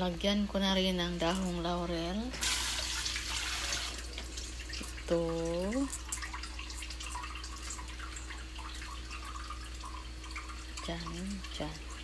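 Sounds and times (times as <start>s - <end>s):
stew bubbling in a pot: 0.8s - 12.0s.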